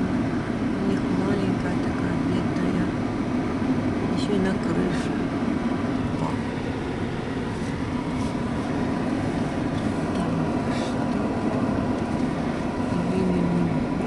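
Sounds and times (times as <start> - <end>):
car cabin road noise: 0.0 - 14.0.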